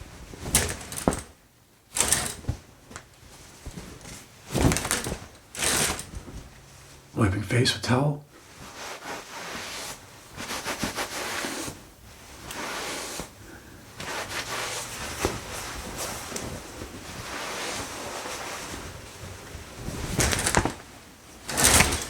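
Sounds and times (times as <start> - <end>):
fabric rustling: 2.0 - 7.1, 8.4 - 22.0.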